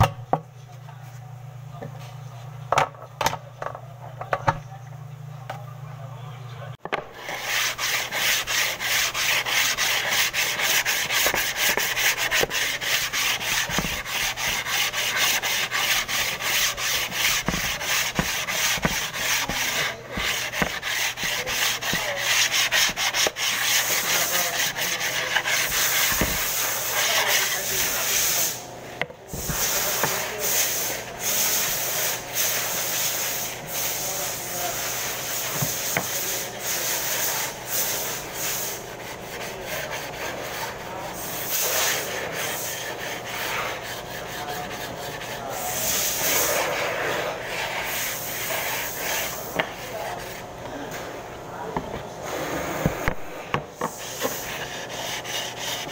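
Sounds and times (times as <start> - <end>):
hand sanding wood: 6.9 - 28.6, 29.3 - 55.9.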